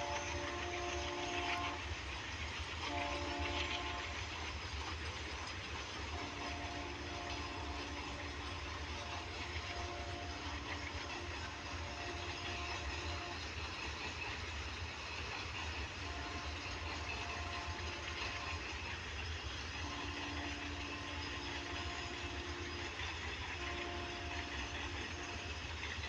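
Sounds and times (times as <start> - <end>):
distant freight train rumble: 0.0 - 26.0.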